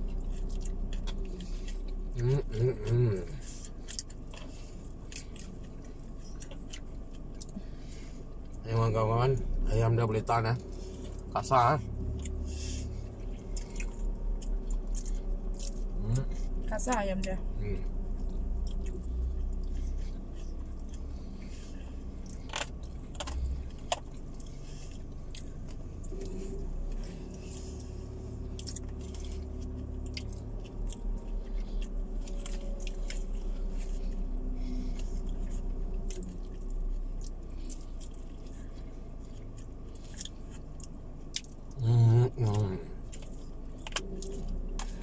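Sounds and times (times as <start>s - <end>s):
close-up chewing: 0.0s - 45.0s.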